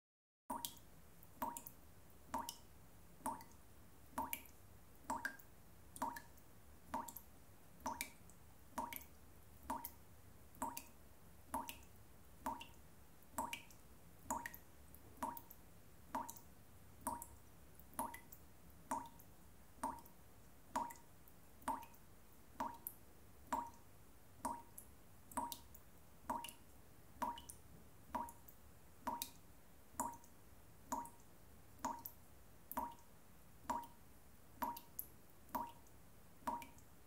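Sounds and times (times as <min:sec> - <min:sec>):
tap dripping water: 0:00.5 - 0:29.4, 0:30.0 - 0:34.0, 0:34.6 - 0:36.9.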